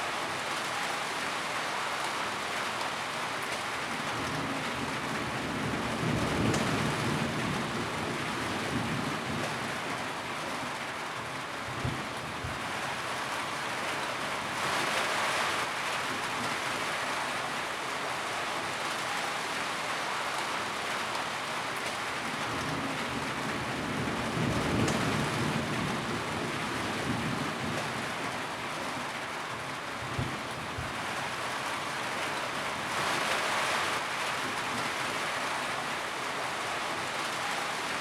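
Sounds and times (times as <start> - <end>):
rain on a tin roof: 0.0 - 38.0.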